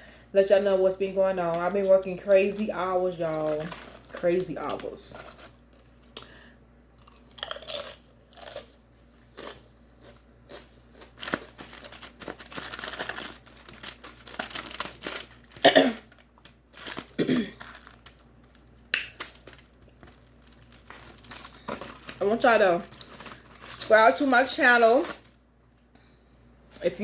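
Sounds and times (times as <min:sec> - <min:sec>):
crunching and chewing food: 0:03.2 - 0:25.9.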